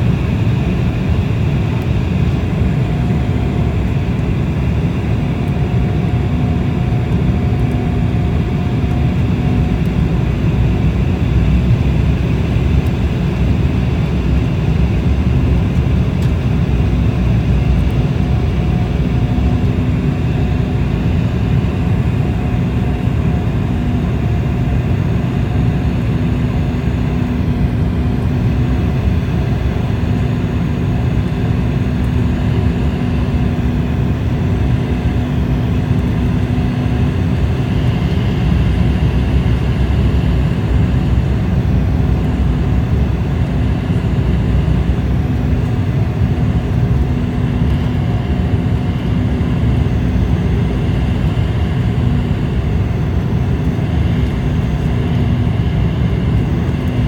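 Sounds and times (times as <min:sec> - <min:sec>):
jet cabin airflow rumble: 0:00.0 - 0:57.0.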